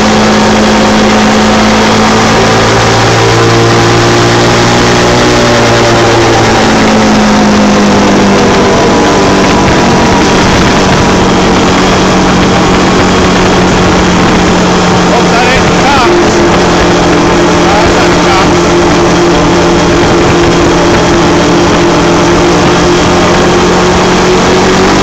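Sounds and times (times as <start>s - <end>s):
atv engine running: 0.0s - 25.0s
steady rushing noise: 0.0s - 25.0s.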